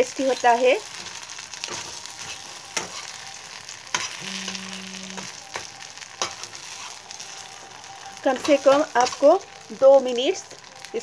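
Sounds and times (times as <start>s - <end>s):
okra sizzling in hot oil: 0.0s - 11.0s.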